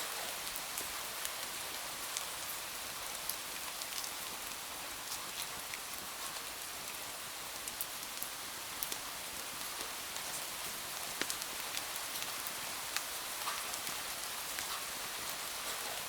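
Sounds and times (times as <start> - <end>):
steady rain hissing: 0.0 - 16.0.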